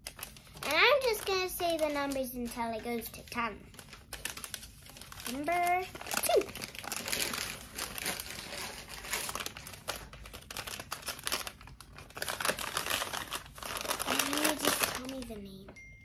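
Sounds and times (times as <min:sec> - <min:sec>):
wrapping paper crinkling: 0:00.0 - 0:15.7.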